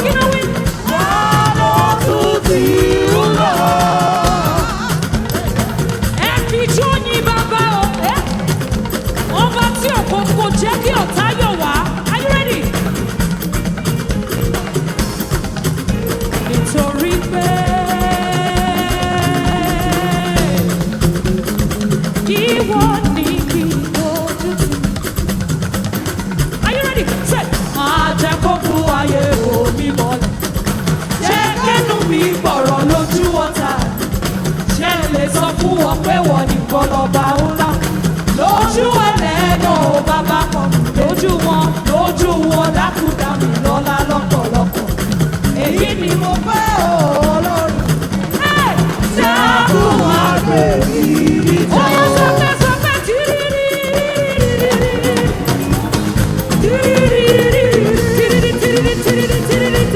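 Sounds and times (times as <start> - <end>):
person singing a melody: 0.0 - 13.3, 16.0 - 25.3, 26.6 - 59.9
gospel band playing: 0.0 - 59.9.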